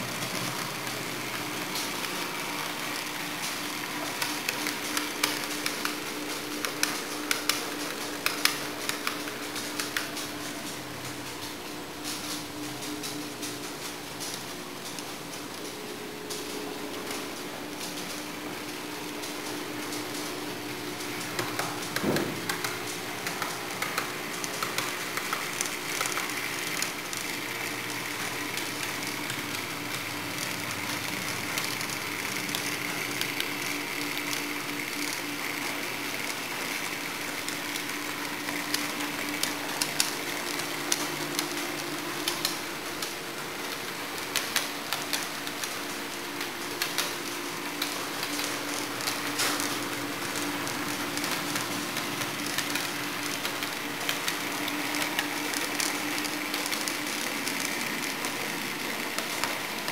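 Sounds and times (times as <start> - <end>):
model train motor hum: 0.0 - 11.1, 17.0 - 59.9.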